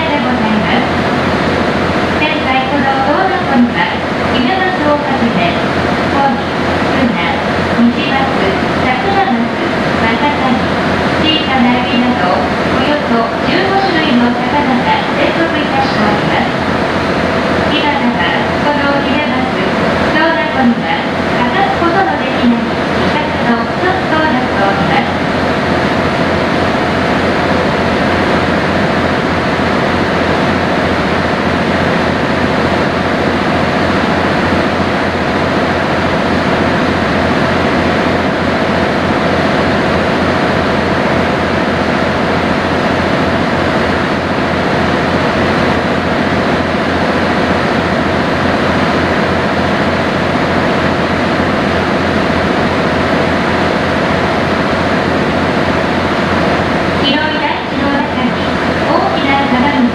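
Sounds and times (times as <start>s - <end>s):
boat engine droning: 0.0s - 59.9s
water rushing along hull: 0.0s - 59.9s.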